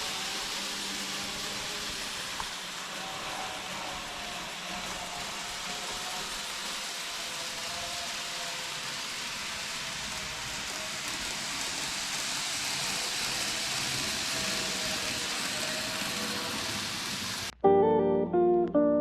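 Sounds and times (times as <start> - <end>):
model train running on track: 0.0 - 17.5.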